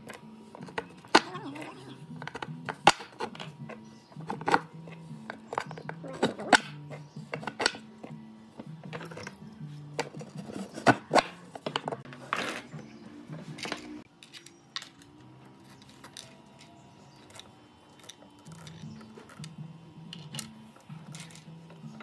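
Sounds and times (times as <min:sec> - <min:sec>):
metal parts clinking on wood: 0:00.0 - 0:12.7, 0:13.6 - 0:22.0
soft background music: 0:00.0 - 0:22.0.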